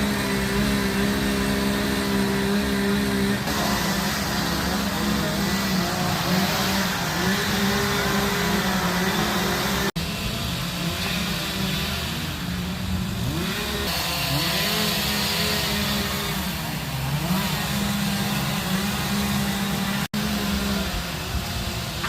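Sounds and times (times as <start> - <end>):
chainsaws revving and cutting wood: 0.0 - 22.0.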